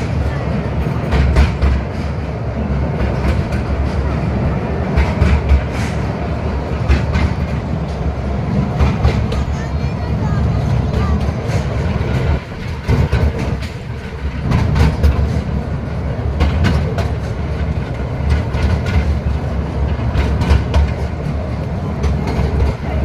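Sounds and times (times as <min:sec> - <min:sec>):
rail clicks and clatter: 0:00.0 - 0:23.0
small train wheels rumbling: 0:00.0 - 0:23.0.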